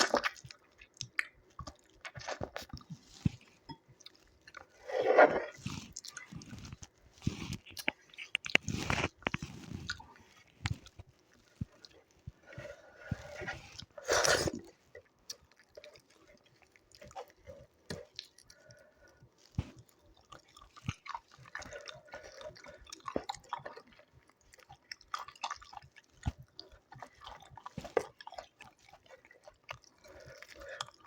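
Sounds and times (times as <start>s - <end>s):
chewing and wet mouth sounds: 0.0s - 31.0s
food crunch: 0.0s - 31.0s.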